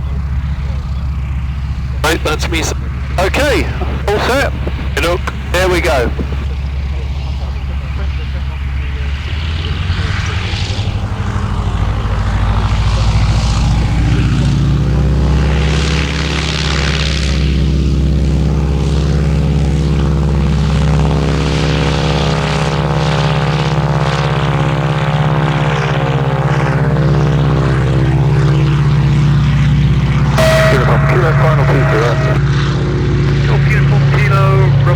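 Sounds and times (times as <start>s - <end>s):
radial engine and propeller drone: 0.0s - 34.9s.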